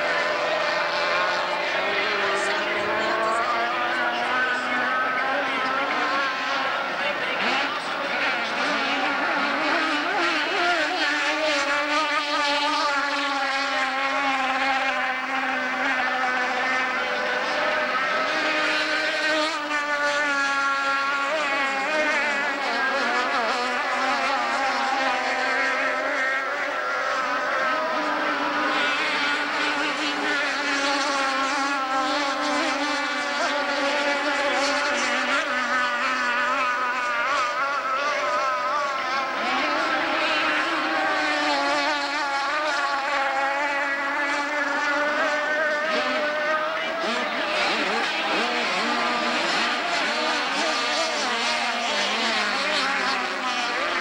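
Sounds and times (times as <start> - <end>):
racing powerboat engines whining: 0.0 - 54.0.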